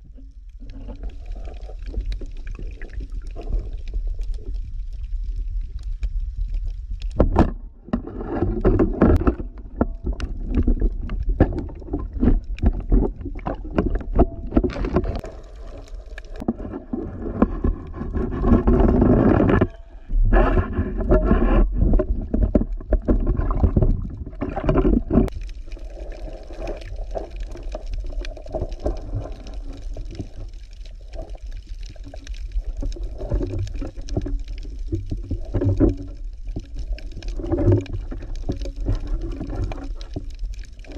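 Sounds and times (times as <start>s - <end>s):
underwater rumble and gurgling: 0.0s - 40.9s
sharp underwater clicks and knocks: 5.9s - 25.6s, 26.5s - 40.9s.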